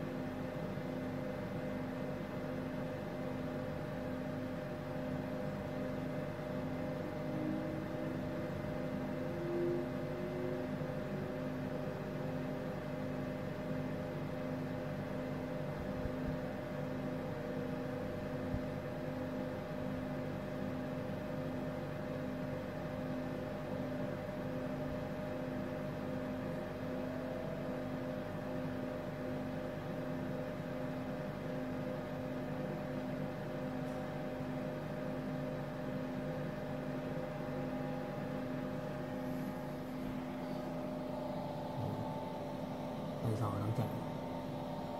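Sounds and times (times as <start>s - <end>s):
faint rising pump whine: 0.0s - 44.9s
machine pump hum: 0.0s - 44.9s.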